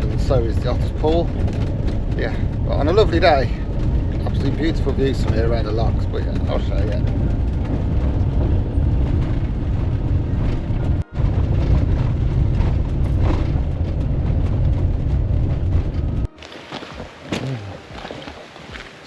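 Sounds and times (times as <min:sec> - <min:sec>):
vehicle rumbling on forest road: 0:00.0 - 0:19.0.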